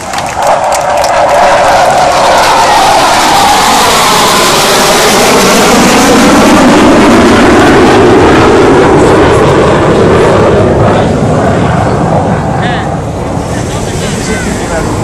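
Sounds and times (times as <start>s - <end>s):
jet engines low pass: 0.0s - 15.0s.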